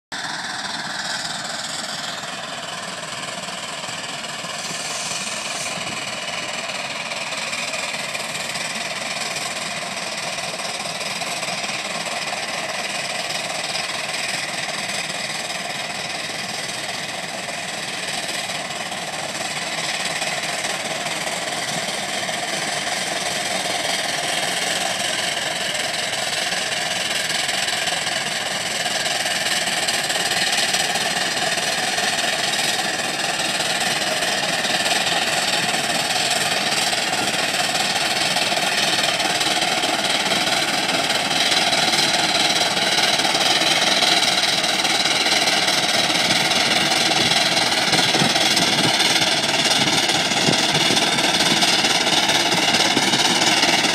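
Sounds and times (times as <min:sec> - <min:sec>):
steam traction engine working: 0:00.1 - 0:53.9.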